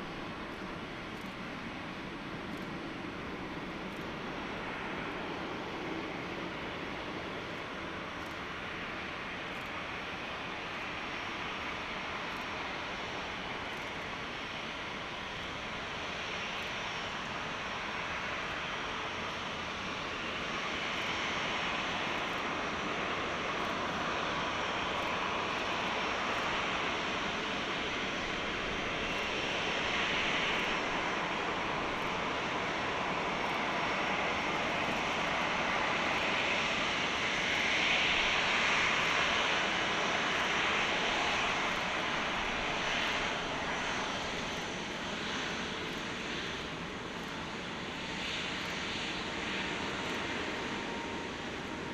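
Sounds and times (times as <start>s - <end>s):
jet engines rushing: 0.0s - 51.9s.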